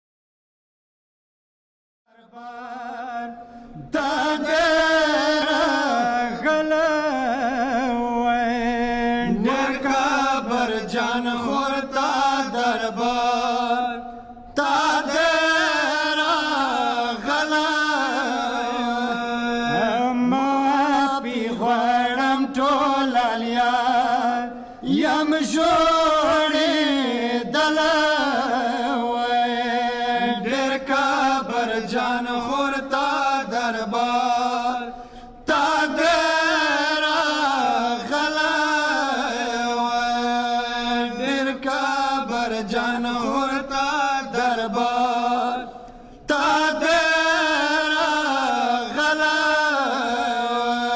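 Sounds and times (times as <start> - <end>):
men chanting a lament: 2.1 - 50.9.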